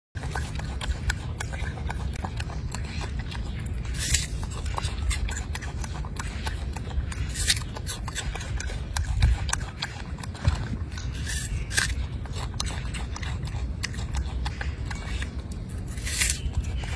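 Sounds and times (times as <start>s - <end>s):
monkey crunching apple: 0.2s - 16.9s
steady low rumble: 0.2s - 16.9s.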